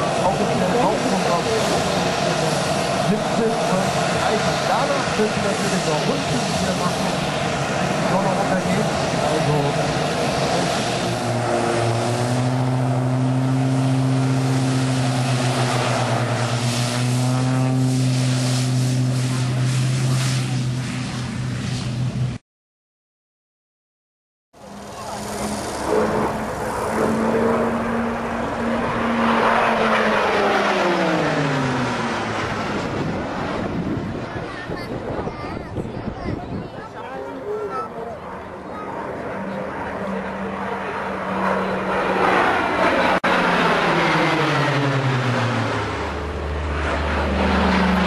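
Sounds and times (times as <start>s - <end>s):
propeller engine drone: 0.0s - 22.4s, 24.6s - 48.0s.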